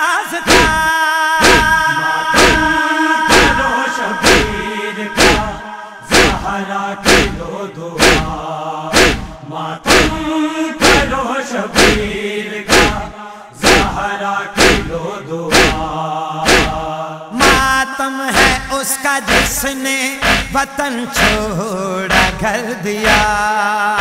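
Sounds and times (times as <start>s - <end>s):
chorus chanting a drone: 0.0s - 24.0s
heavy chest-beat strikes: 0.5s - 11.2s, 11.8s - 14.0s, 14.6s - 23.5s.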